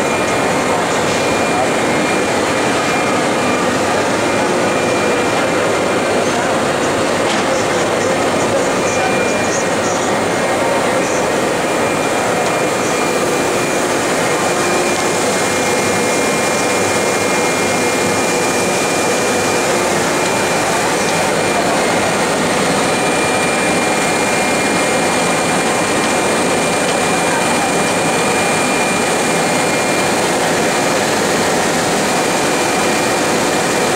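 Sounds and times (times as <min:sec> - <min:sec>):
machine blowers rushing air: 0:00.0 - 0:33.9.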